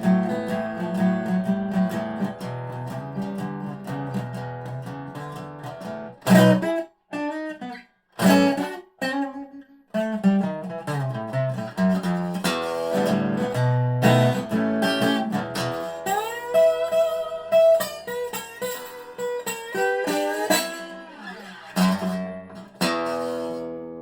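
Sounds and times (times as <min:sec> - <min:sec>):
resonator guitar strummed and picked: 0:00.0 - 0:24.0.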